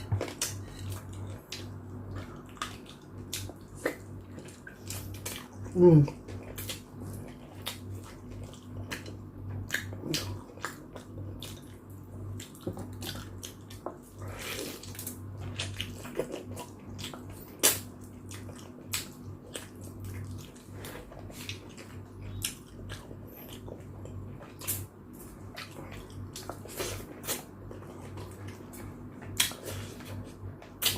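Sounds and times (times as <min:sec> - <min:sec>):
low steady hum: 0:00.0 - 0:30.9
wet chewing with lip-smacking: 0:00.0 - 0:30.9.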